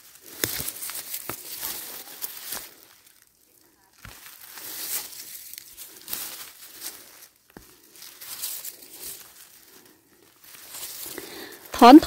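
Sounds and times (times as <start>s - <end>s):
undergrowth rustling and crinkling: 0.0s - 12.0s.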